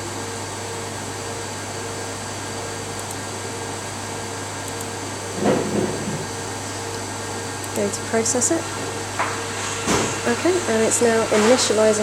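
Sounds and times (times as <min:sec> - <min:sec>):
fan whirring hum: 0:00.0 - 0:12.0.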